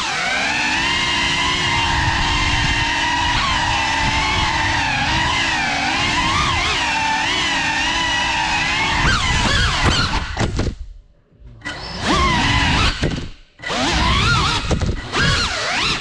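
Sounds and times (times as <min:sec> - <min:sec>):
drone motors whining: 0:00.0 - 0:10.7, 0:11.4 - 0:16.0.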